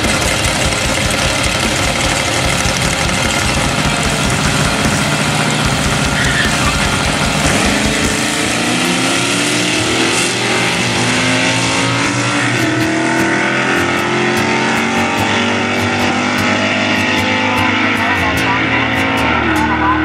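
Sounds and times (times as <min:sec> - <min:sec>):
race car engines accelerating: 0:00.0 - 0:20.0.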